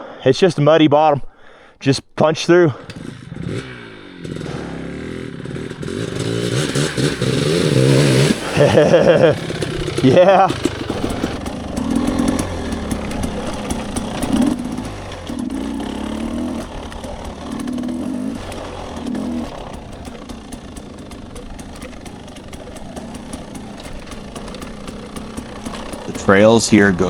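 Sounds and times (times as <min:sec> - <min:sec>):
dirt bike engine revving: 0:02.3 - 0:27.0.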